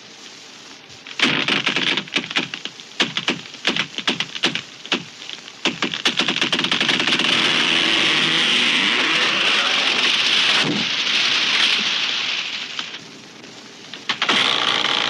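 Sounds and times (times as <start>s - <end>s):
crash of branches and leaves: 0.0s - 15.0s
wood cracking: 1.0s - 13.0s, 13.9s - 15.0s.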